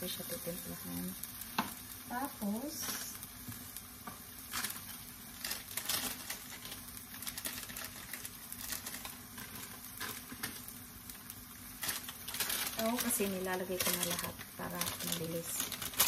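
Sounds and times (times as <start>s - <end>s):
meat sizzling in a wok: 0.0s - 16.0s.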